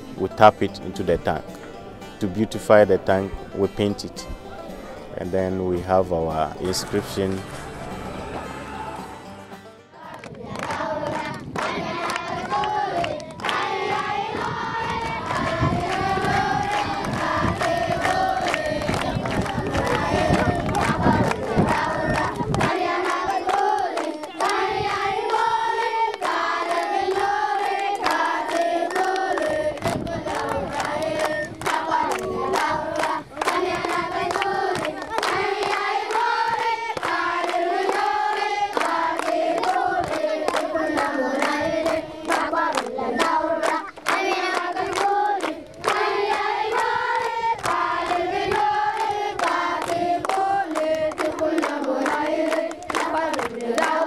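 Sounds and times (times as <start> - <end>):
children clapping along: 6.6 - 54.0
children singing together: 6.6 - 54.0.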